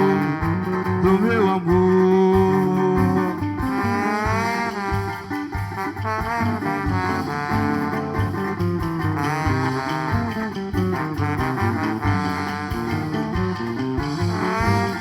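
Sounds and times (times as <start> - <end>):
guitar: 0.0 - 15.0
pulsing bass line: 0.0 - 15.0.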